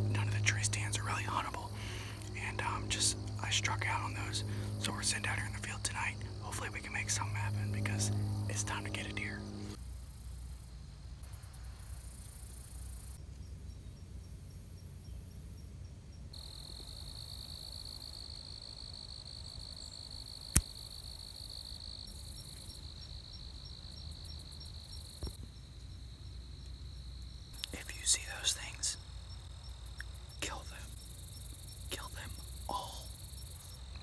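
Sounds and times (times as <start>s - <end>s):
cricket trilling: 0.0s - 9.8s, 16.4s - 34.0s.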